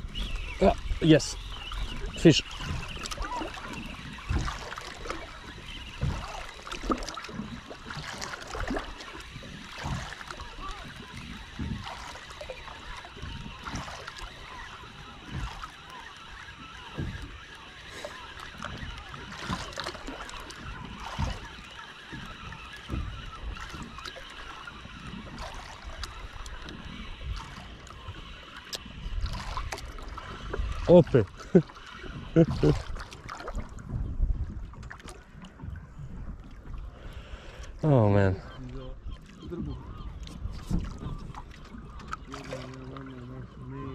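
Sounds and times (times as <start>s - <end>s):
water lapping against boat hull: 0.0s - 43.9s.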